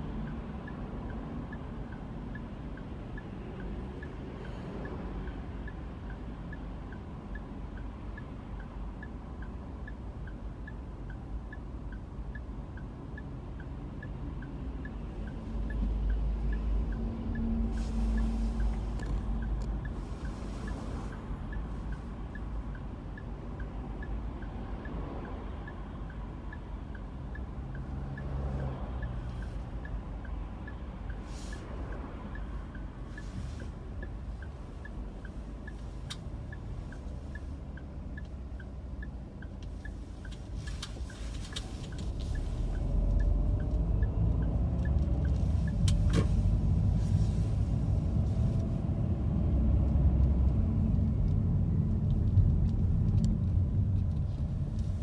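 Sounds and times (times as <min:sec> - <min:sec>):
engine and road hum: 0:00.0 - 0:55.0
light regular ticking: 0:00.2 - 0:55.0.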